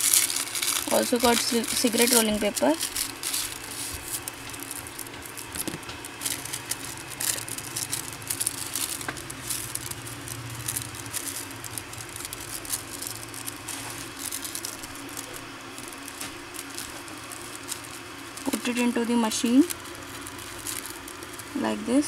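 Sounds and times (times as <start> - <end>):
rolling paper rustling and crinkling: 0.0 - 22.0.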